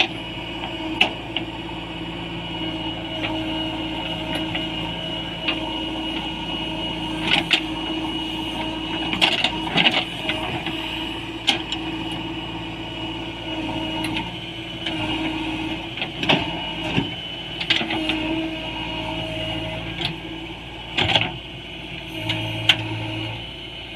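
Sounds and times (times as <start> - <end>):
diesel engine whining under load: 0.0 - 23.9.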